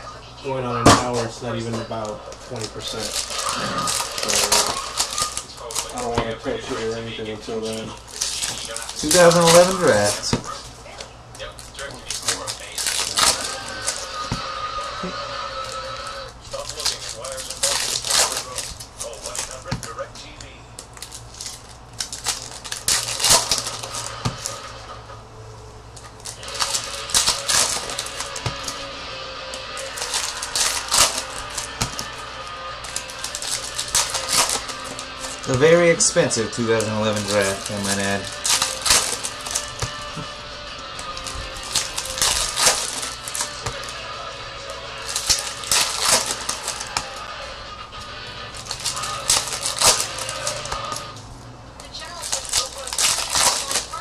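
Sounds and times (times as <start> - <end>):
quiet background music: 0.0 - 54.0
crackling card pack wrapper: 1.1 - 25.0, 25.8 - 54.0
cards flicking and clicking: 1.8 - 6.3, 7.7 - 15.9, 16.5 - 24.9, 25.9 - 54.0.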